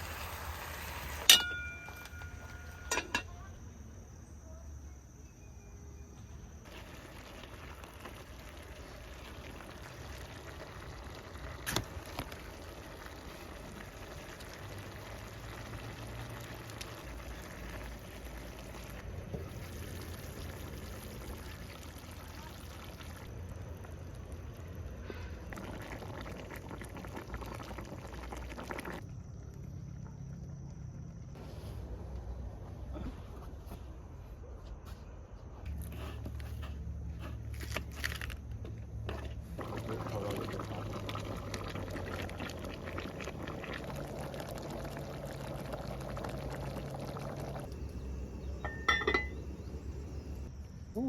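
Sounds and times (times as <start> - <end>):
liquid boiling in a pot: 0.0 - 3.3, 6.6 - 31.2, 35.8 - 50.5.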